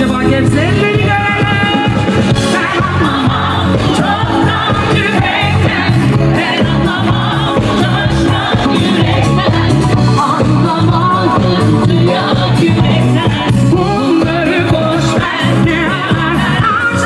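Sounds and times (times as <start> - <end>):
live pop band playing: 0.0 - 17.0
woman singing into microphone: 0.0 - 17.0.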